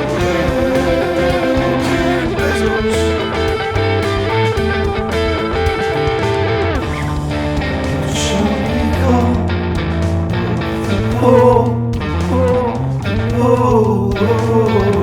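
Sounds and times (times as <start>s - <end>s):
electric guitar playing: 0.0s - 13.4s
bass guitar: 0.0s - 15.0s.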